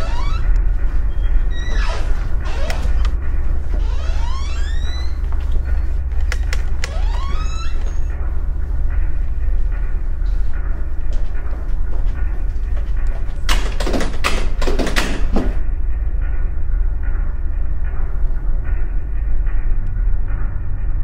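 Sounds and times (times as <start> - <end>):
steady low rumble: 0.0 - 13.5, 15.5 - 21.0.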